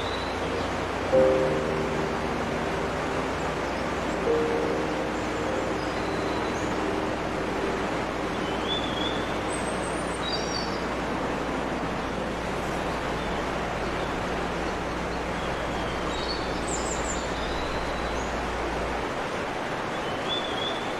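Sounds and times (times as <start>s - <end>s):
birds chirping: 0.0s - 18.8s
waterfall rushing: 0.0s - 20.9s.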